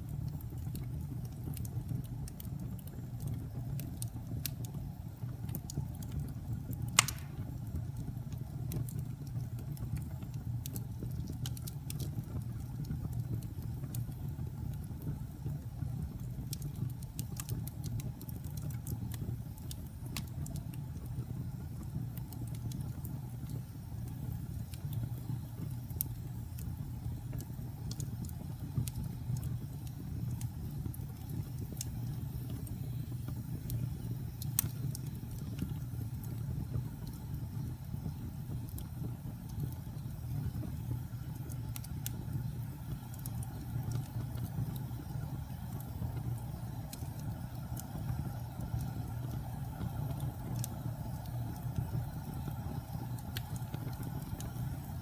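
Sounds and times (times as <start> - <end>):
fire crackling: 0.0 - 55.0
fire flames rumbling: 0.0 - 55.0
fire popping: 0.0 - 55.0.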